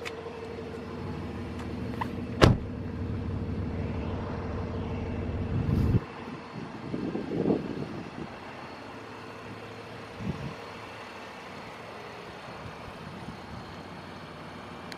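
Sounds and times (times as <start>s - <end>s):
outdoor background noise: 0.0s - 14.9s.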